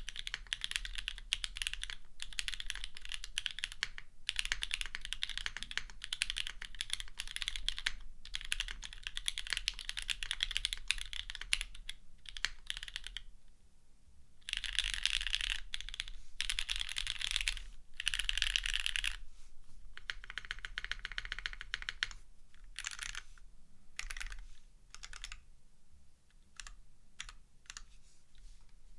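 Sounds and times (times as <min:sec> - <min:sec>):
mechanical keyboard typing: 0:00.0 - 0:13.2, 0:14.4 - 0:19.2, 0:20.0 - 0:22.2, 0:22.8 - 0:23.2, 0:24.0 - 0:25.4, 0:26.5 - 0:27.9.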